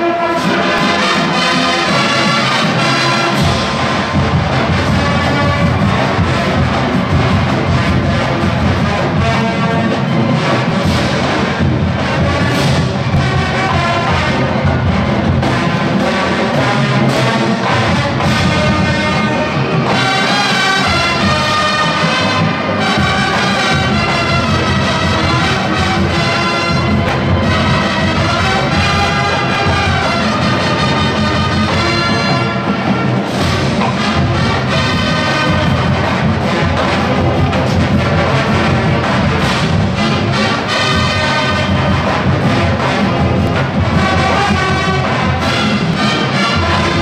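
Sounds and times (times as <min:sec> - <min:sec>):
brass section playing: 0:00.0 - 0:47.0
drums: 0:00.0 - 0:47.0.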